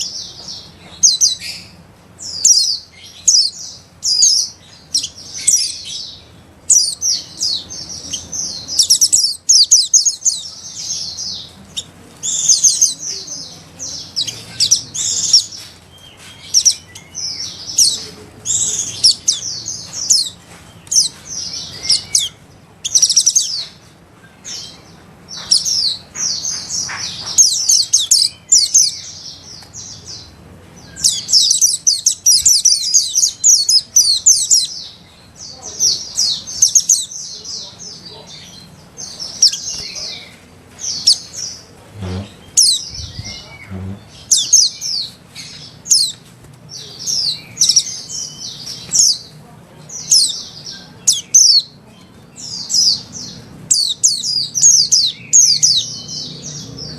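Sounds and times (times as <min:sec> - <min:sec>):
small birds twittering chirps: 0:00.0 - 0:56.9.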